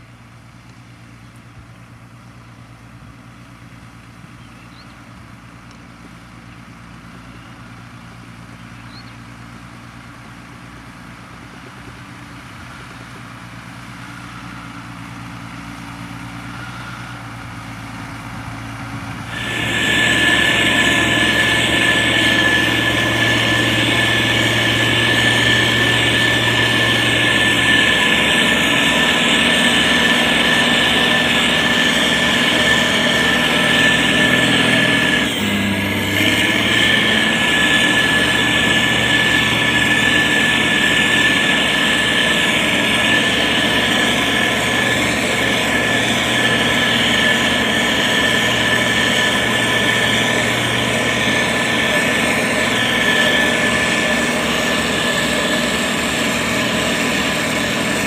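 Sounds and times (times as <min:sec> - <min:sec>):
diesel engine running: 0:00.0 - 0:58.0
high steady whine: 0:11.1 - 0:58.0.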